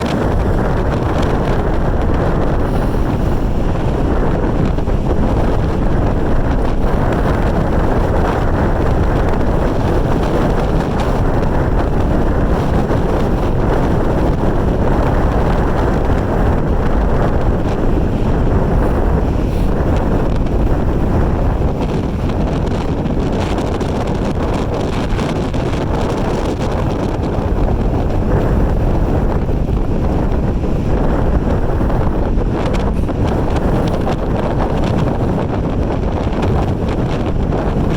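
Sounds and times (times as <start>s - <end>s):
heavy surf breaking on shore: 0.0s - 37.9s
strong wind buffeting microphone: 0.0s - 37.9s.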